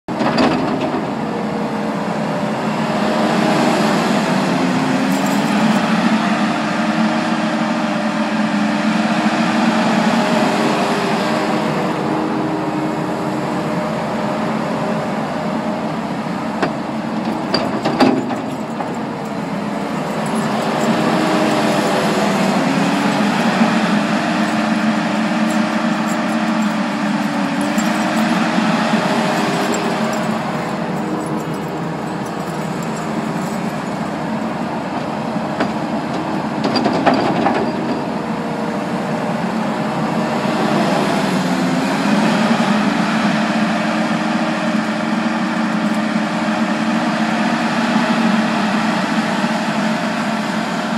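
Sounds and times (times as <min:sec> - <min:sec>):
diesel engine working under load: 0:00.1 - 0:50.9.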